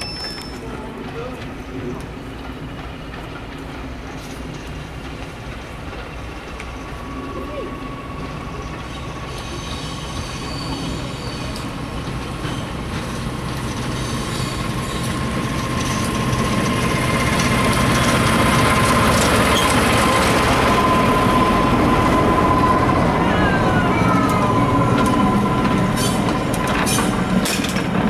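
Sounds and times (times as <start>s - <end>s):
diesel train approaching: 0.0s - 28.0s.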